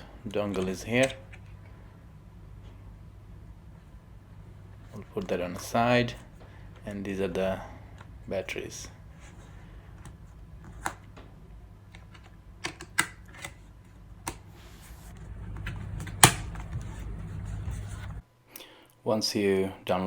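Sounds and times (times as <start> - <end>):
low steady hum: 0.0 - 18.4.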